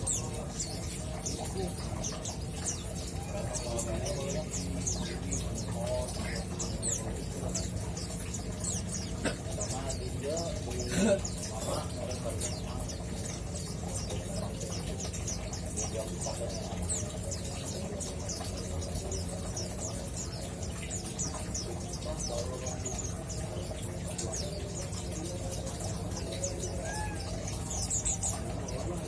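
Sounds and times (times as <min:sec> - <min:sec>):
bird twittering high chirps: 0:00.0 - 0:29.0.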